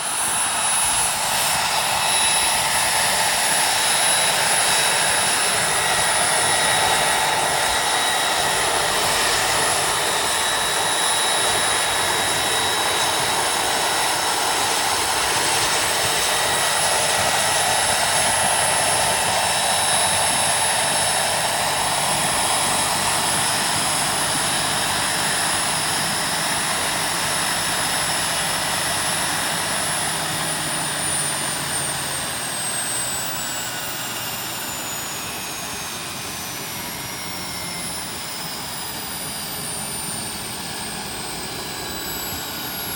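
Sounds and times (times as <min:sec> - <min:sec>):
gas turbine engine whining: 0:00.0 - 0:42.9.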